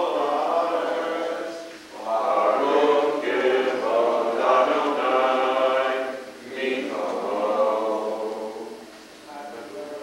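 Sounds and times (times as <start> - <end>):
congregation singing a chant: 0.0 - 9.1.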